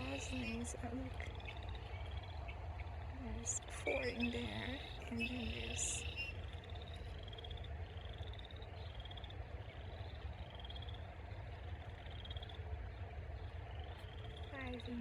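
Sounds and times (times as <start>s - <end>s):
frogs calling: 0.0s - 15.0s
low steady rumble: 0.0s - 15.0s.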